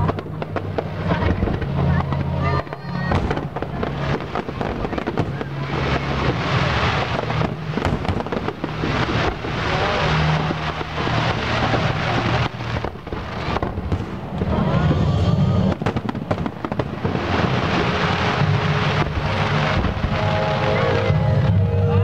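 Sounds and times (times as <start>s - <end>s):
fireworks bursting and crackling: 0.0s - 22.0s.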